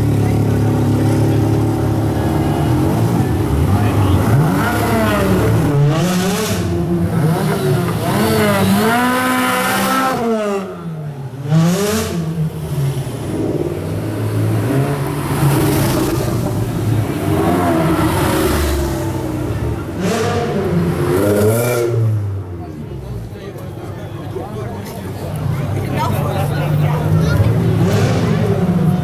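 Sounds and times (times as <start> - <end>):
sports car engines revving: 0.0 - 29.0.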